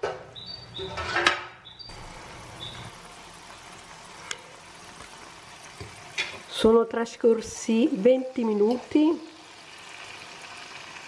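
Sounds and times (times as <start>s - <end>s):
peppers sizzling in oil: 1.8s - 11.0s.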